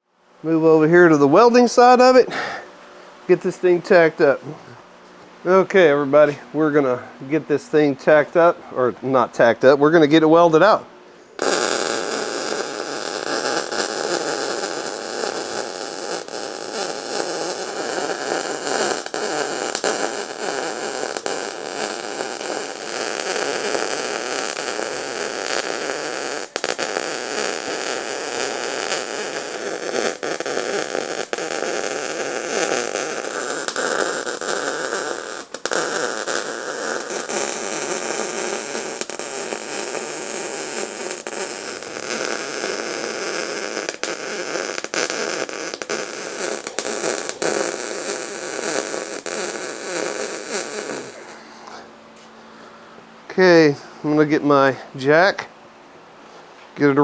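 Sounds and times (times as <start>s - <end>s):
arc welding crackling hiss: 0.0s - 4.7s, 5.4s - 51.5s.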